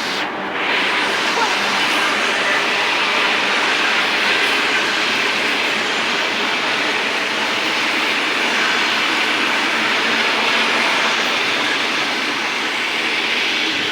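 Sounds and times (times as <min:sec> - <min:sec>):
train passing at speed: 0:00.0 - 0:13.9.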